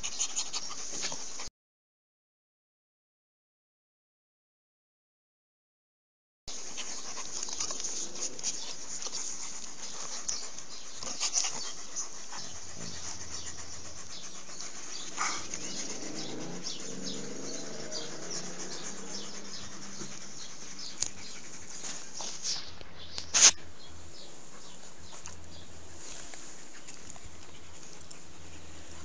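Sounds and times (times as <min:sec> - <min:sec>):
dog panting: 0:00.0 - 0:01.5, 0:06.5 - 0:29.0.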